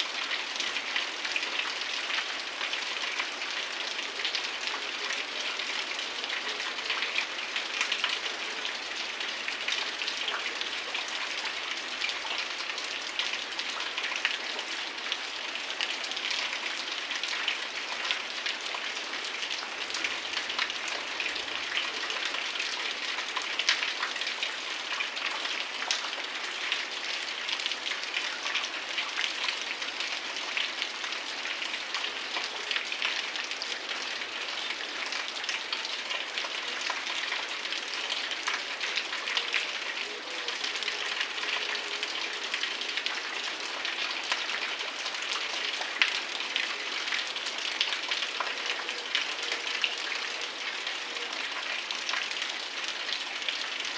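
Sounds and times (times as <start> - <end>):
heavy rain falling: 0.1 - 53.9.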